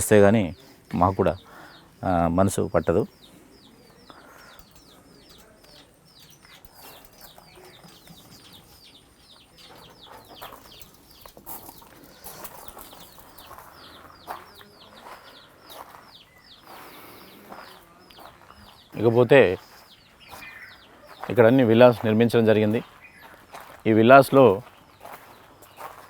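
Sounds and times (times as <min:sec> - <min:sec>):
high bird chirps: 0:00.0 - 0:26.0.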